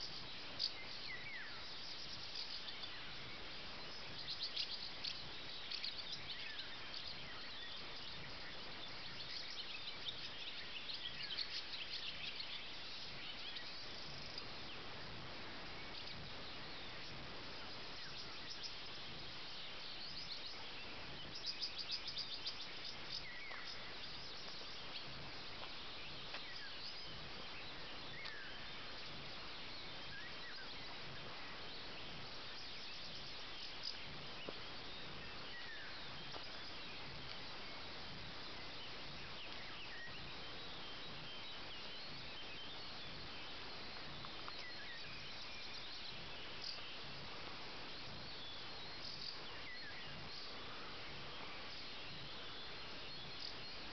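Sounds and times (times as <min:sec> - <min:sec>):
bird calls and chirps: 0:00.0 - 0:53.9
steady hiss: 0:00.0 - 0:53.9.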